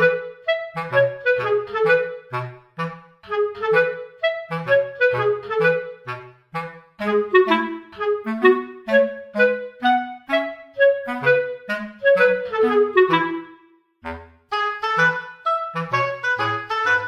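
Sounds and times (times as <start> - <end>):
light bouncy background music: 0.0 - 17.0.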